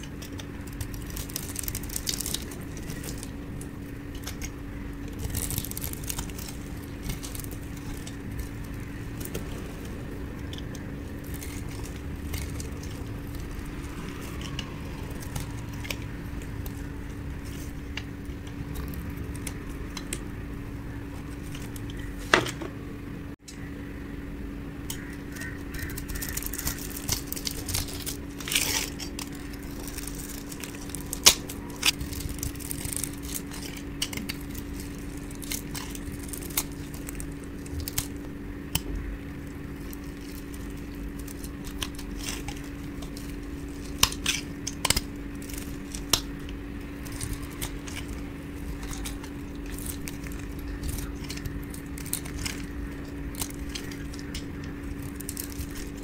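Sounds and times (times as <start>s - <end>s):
knife cutting soap crunching: 0.0s - 22.5s, 24.9s - 56.0s
steady low hum: 0.0s - 56.0s.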